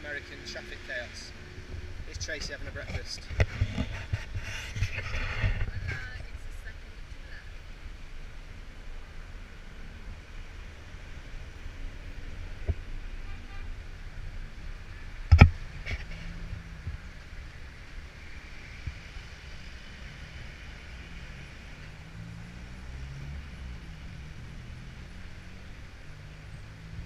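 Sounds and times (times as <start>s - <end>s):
car engines idling: 0.0s - 27.0s.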